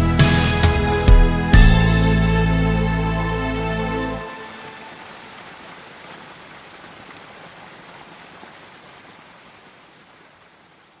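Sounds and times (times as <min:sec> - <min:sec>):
steady rain: 0:01.8 - 0:11.0.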